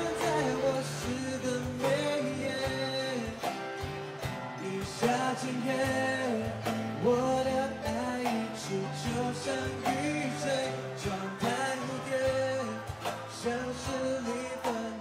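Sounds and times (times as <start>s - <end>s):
song with singing and beat: 0.0s - 15.0s.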